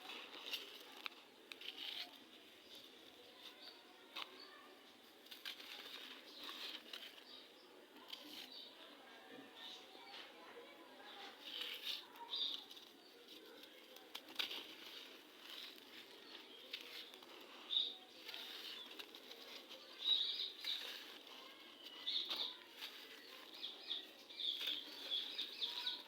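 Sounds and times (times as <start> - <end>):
sand crumbling and crackling: 0.0 - 8.9, 11.1 - 26.0.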